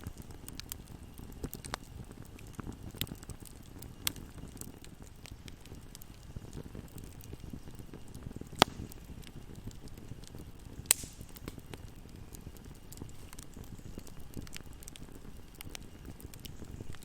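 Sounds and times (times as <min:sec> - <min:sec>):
fireplace fire crackling: 0:00.0 - 0:17.0
loud fire pops: 0:00.0 - 0:17.0.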